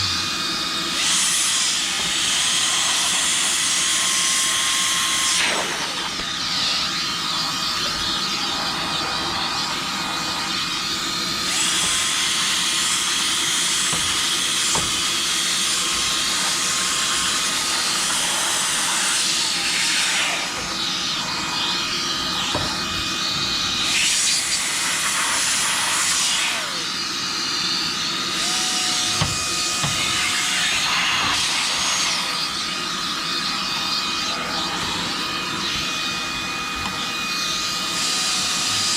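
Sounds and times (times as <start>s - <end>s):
electric blower running: 0.0s - 38.9s.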